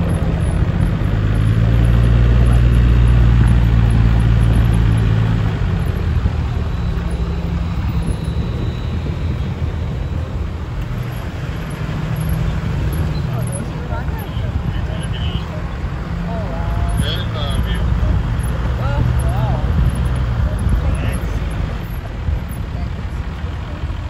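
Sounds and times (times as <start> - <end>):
engine and tyre rumble on gravel: 0.0 - 24.0.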